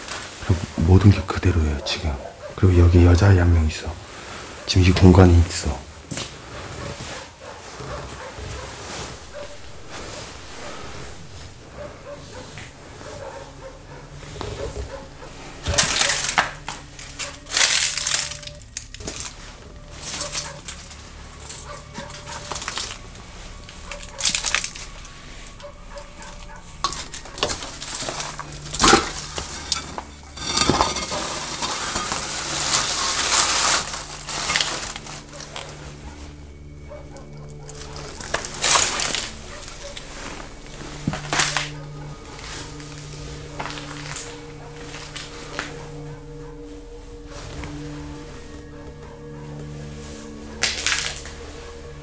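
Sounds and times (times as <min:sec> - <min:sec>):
distant dogs barking: 0:00.4 - 0:52.0
footsteps crunching on debris: 0:04.6 - 0:52.0.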